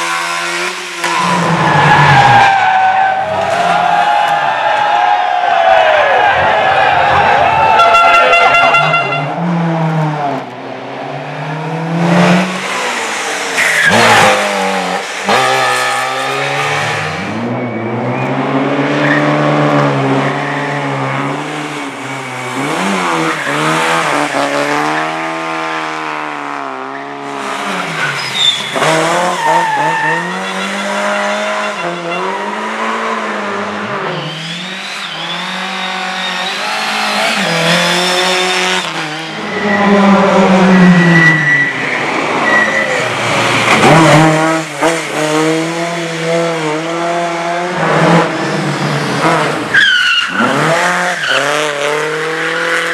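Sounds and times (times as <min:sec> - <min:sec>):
tires squealing: 0:00.0 - 0:10.0, 0:12.2 - 0:52.9
race car engine revving: 0:05.8 - 0:52.9.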